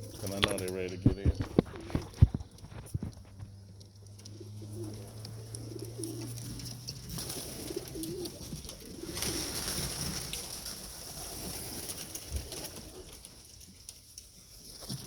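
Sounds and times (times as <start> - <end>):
pigeons cooing: 0.0 - 13.4.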